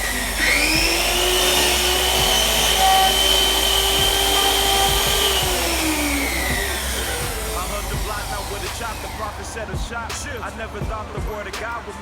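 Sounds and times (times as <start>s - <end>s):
power tool motor whining: 0.0s - 12.0s.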